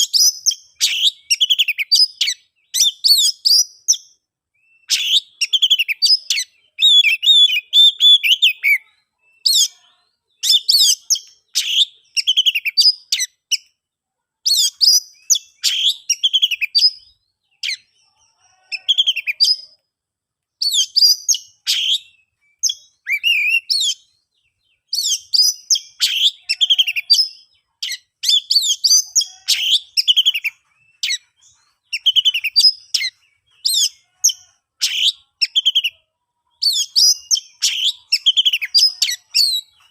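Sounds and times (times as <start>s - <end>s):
magpie-robin singing: 0.0s - 13.8s, 14.4s - 19.8s, 20.6s - 39.9s.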